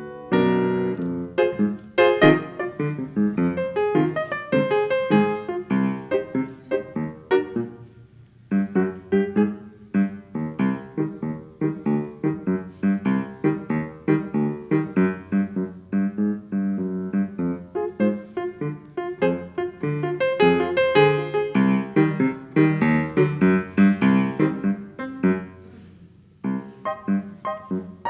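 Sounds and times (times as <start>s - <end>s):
lively solo piano: 0.0s - 28.0s.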